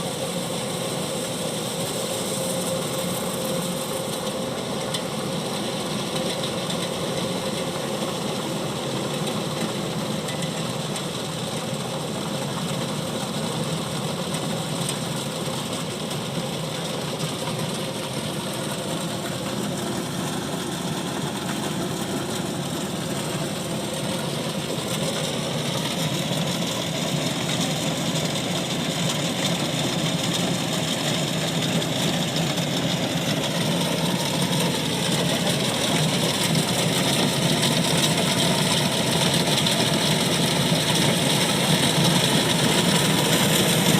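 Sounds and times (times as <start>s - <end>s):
combine harvester droning: 0.0s - 43.9s.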